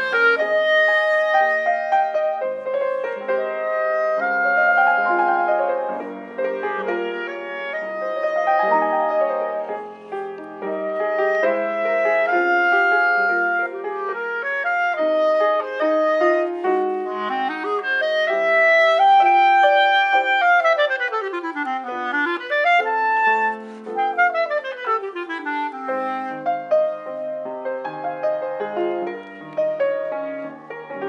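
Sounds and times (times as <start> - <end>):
clarinet and piano duo: 0.0 - 31.0.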